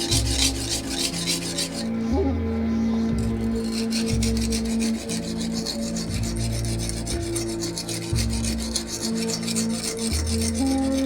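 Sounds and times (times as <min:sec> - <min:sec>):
knife rasping on whetstone: 0:00.0 - 0:02.1, 0:03.0 - 0:11.0.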